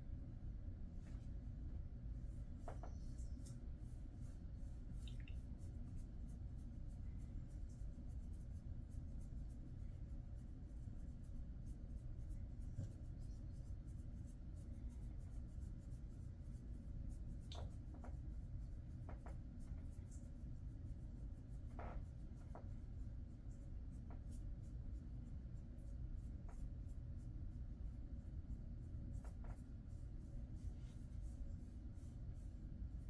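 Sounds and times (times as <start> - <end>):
low steady hum: 0.0 - 33.0
fingers scratching dog fur: 2.2 - 33.0.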